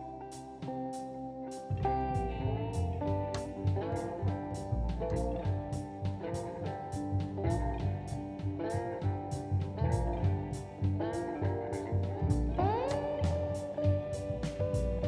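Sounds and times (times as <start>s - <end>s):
bass: 0.0s - 15.0s
electric guitar bending notes: 0.0s - 15.0s
steady drum beat: 1.7s - 15.0s.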